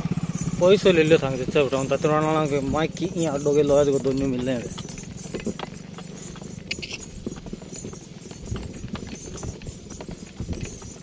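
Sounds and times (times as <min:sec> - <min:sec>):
cart rolling rumble: 0:00.0 - 0:11.0.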